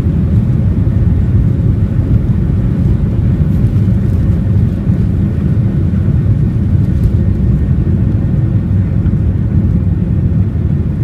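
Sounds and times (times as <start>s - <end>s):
aeroplane taking off: 0.0s - 11.0s.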